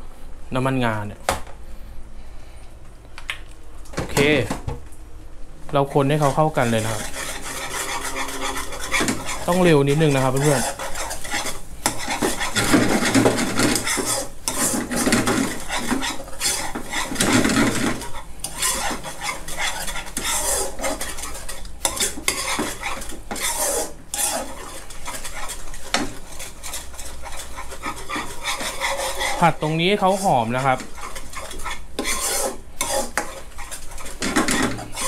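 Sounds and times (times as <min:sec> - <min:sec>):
metal spoon scraping frying pan: 0:05.9 - 0:35.0.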